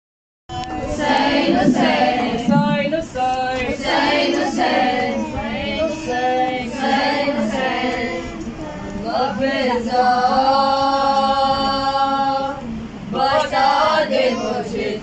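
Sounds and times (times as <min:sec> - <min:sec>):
women singing a lament: 0:00.5 - 0:15.0.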